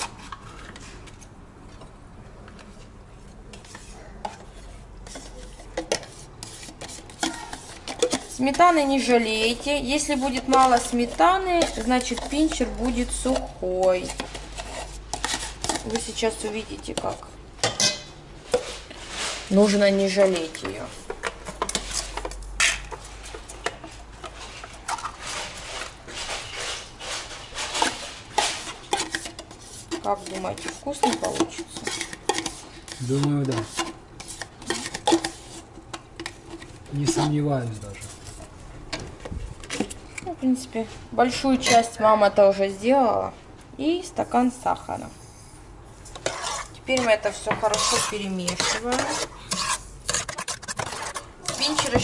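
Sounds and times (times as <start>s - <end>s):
spoon scraping plastic tub: 2.5s - 38.5s, 41.3s - 42.0s, 46.0s - 52.0s.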